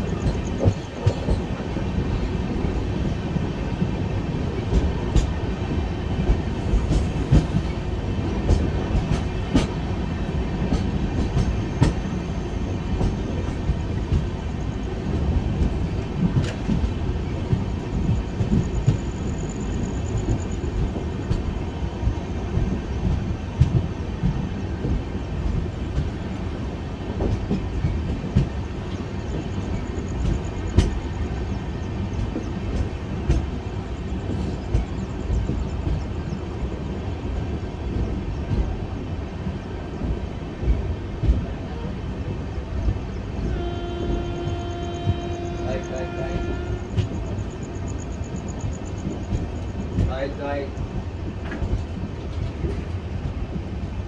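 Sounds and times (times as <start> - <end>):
rail joint clicks: 0.0 - 54.0
train wheels rumbling on track: 0.0 - 54.0.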